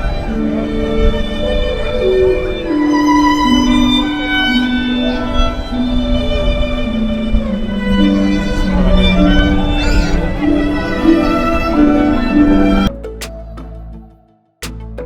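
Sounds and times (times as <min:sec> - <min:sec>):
bowed string melody: 0:00.0 - 0:13.4.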